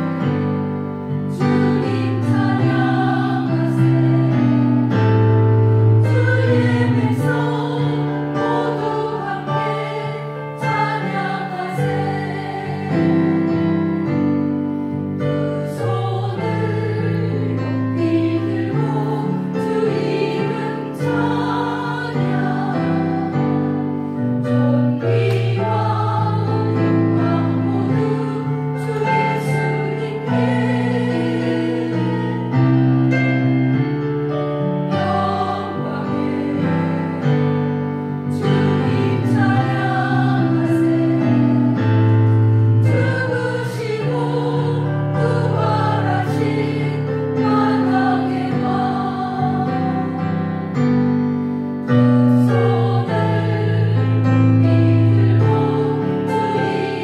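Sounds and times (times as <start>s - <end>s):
women's choir singing a hymn: 0.0s - 57.0s.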